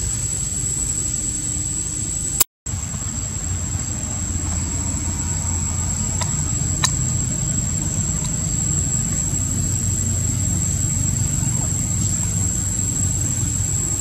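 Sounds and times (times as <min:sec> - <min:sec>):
high-pitched whine: 0:00.0 - 0:14.0
low vehicle rumble: 0:02.7 - 0:14.0.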